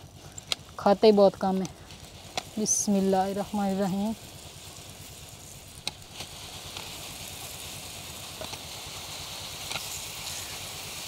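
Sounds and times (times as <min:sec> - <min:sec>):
grain pouring hiss: 0:00.0 - 0:11.0
low steady rumble: 0:00.0 - 0:11.0.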